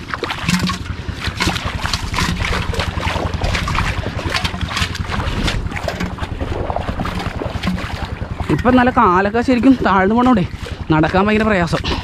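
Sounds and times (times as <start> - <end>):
feet wading through water: 0.0 - 12.0
wind on microphone: 0.0 - 12.0.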